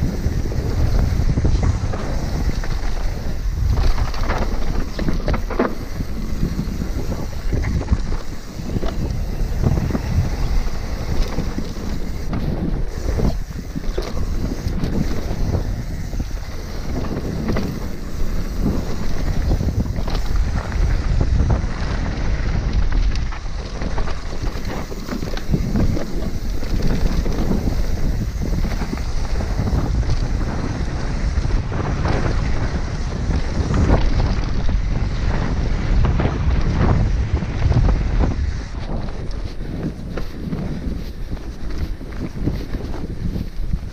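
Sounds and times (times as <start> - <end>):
bike rattling and knocking: 0.0 - 43.9
bike tyres rolling on dirt: 0.0 - 43.9
wind rushing over microphone: 0.0 - 43.9.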